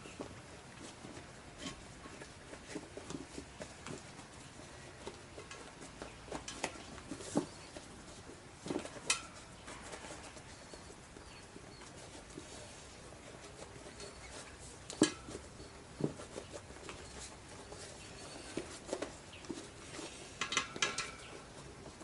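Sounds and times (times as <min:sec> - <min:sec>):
rubber rubbing and handling noises: 0:00.0 - 0:22.0.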